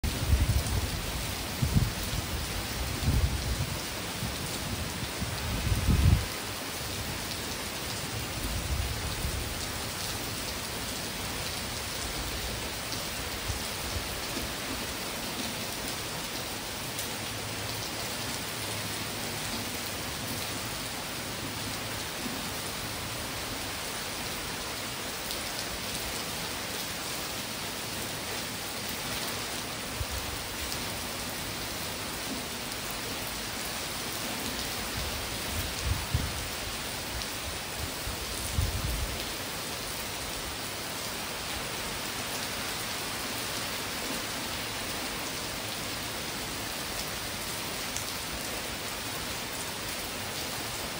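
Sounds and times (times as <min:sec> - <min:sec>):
rain falling on leaves: 0:00.0 - 0:50.9.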